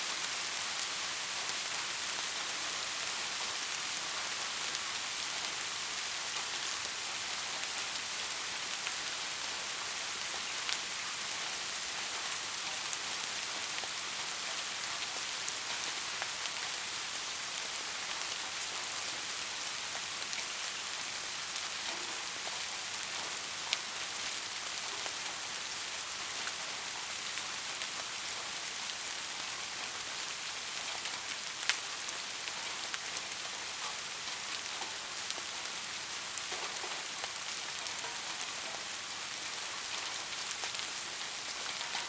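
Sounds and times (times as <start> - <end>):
steady rain hissing: 0.0 - 42.0.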